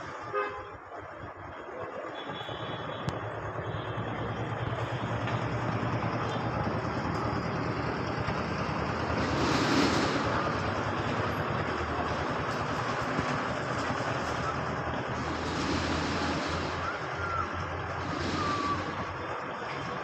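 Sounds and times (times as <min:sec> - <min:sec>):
traffic rumble: 0:00.0 - 0:20.0
vehicle passing close: 0:03.4 - 0:20.0.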